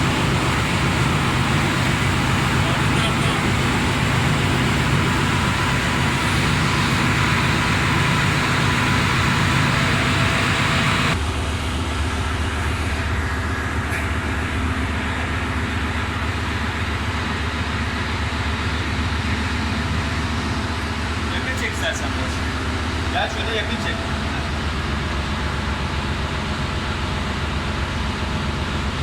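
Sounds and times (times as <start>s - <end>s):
low hum: 0.0s - 27.0s
engine-room machinery drone: 0.0s - 29.0s.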